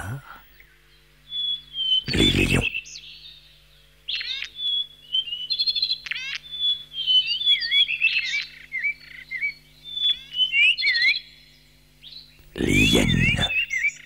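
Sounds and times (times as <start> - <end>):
birds twittering and warbling: 0.0 - 14.0.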